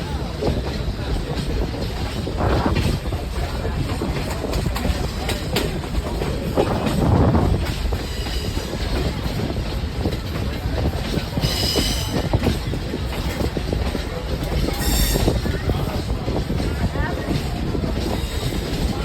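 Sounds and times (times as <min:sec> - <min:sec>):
train rumbling along track: 0:00.0 - 0:19.0
wheels clacking over rail joints: 0:00.0 - 0:19.0.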